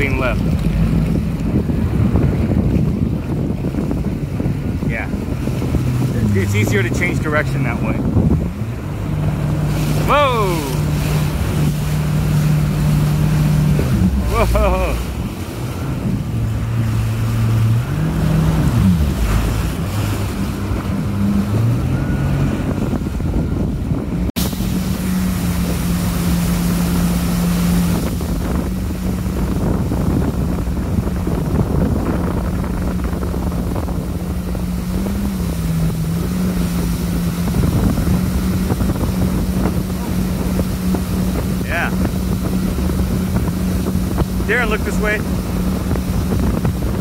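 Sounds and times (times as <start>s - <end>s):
jet ski engine running: 0.0s - 47.0s
water rushing under hull: 0.0s - 47.0s
wind buffeting microphone: 0.0s - 47.0s.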